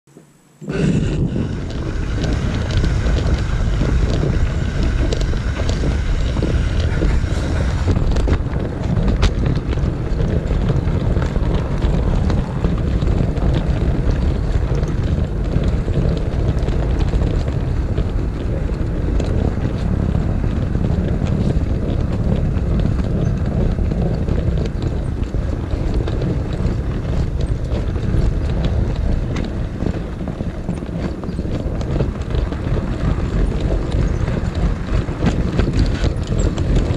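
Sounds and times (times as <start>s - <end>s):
wheels clicking on rails: 0.2s - 36.9s
model train rumbling: 0.5s - 36.9s.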